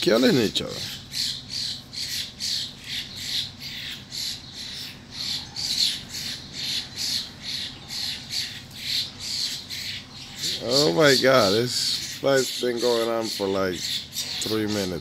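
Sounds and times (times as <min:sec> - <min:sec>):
birds squawking: 0:00.0 - 0:15.0.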